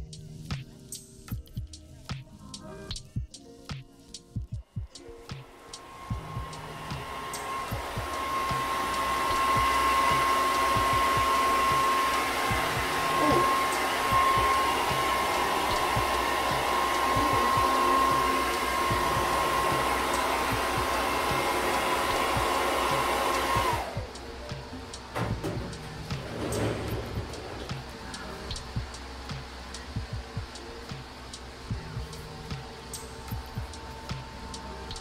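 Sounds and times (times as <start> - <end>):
blow dryer running: 5.3 - 35.0.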